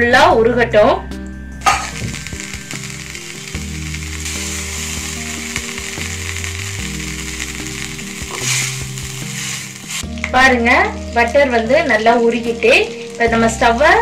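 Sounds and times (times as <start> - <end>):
butter sizzling in a pan: 1.6 - 14.0.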